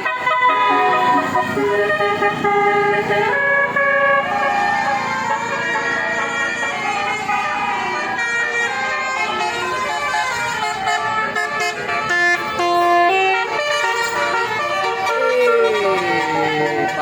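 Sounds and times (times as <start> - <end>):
bus musical horn tune: 0.0 - 17.0.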